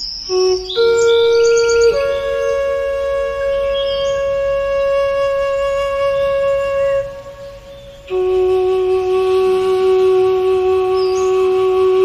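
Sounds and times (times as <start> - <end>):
flute-like wind instrument note: 0.3 - 12.0.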